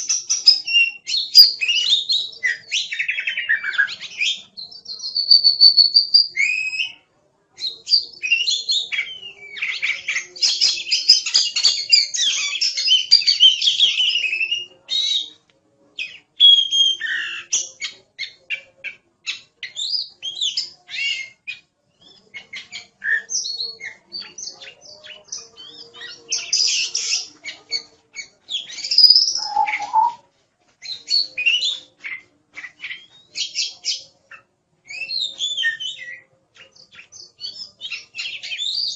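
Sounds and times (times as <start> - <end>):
bird singing whistles and trills: 0.0 - 7.0, 7.6 - 15.4, 16.0 - 30.2, 30.8 - 38.9.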